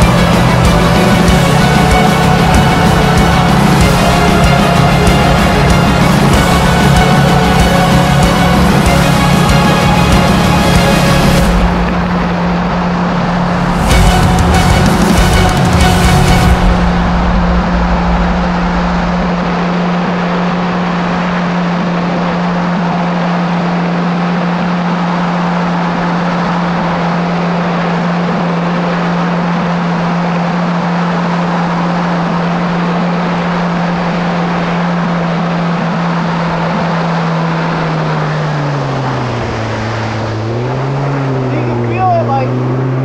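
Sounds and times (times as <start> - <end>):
jet ski engine running: 0.0 - 43.0
rush of noise: 0.0 - 43.0.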